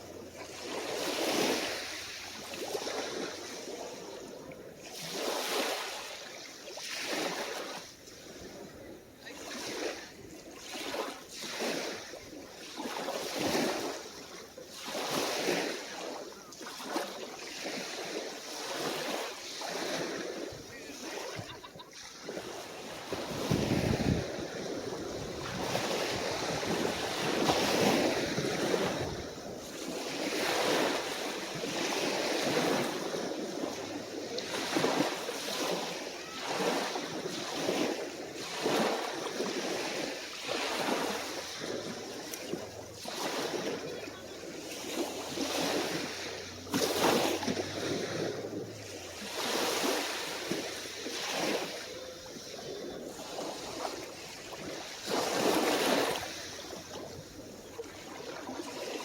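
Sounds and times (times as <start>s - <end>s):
small waves lapping on beach: 0.0s - 59.0s.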